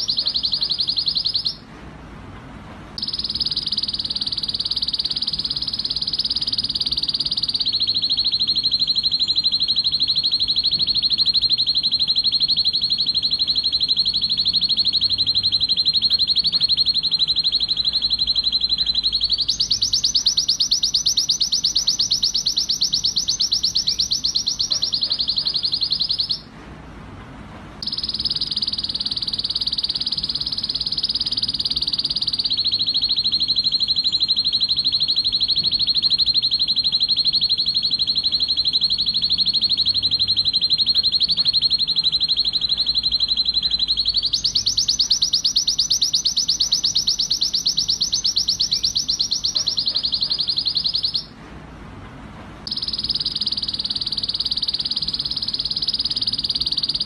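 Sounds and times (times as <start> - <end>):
canary singing rapid trills: 0.0 - 1.7, 3.0 - 26.5, 27.8 - 51.4, 52.7 - 57.0.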